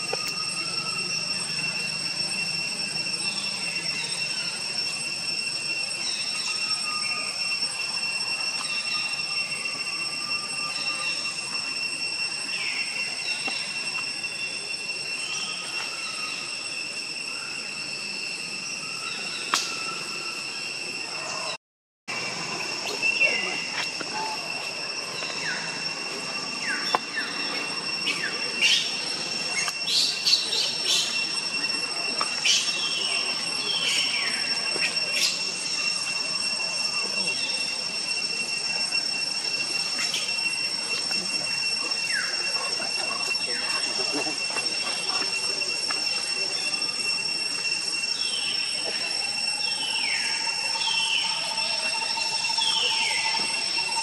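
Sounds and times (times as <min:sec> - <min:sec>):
descending whistled calls: 0:00.0 - 0:54.0
high two-pitched insect drone: 0:00.0 - 0:54.0.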